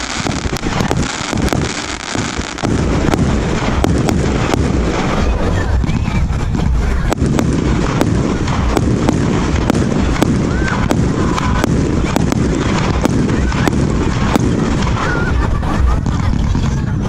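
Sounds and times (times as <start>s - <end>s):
firework launches and bursts rumbling: 0.0s - 17.0s
sharp firework cracks: 0.0s - 17.0s.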